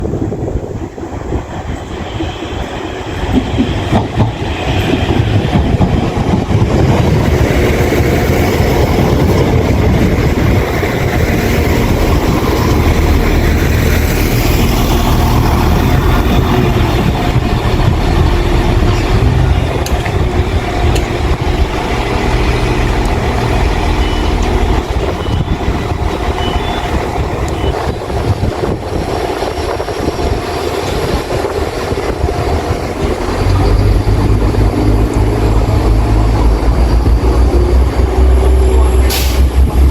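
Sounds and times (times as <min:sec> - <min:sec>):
diesel train rumbling: 0:00.0 - 0:39.9.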